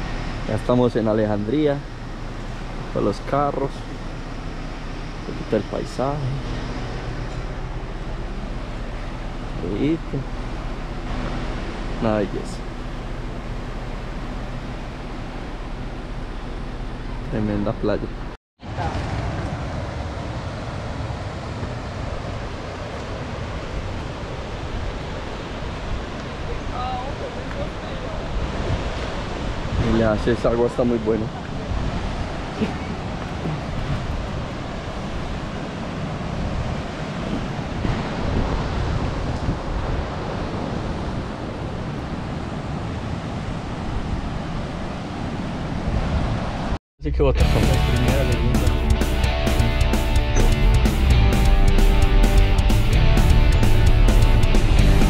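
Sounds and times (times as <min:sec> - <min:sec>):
wind rumble on microphone: 0:00.0 - 0:46.8.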